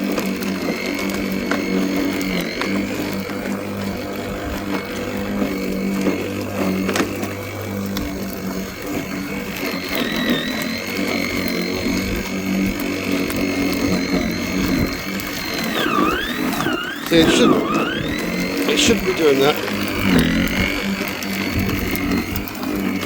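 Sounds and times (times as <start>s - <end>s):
electric lawnmower whine: 0.0s - 23.0s
scattered clicks: 0.0s - 23.0s.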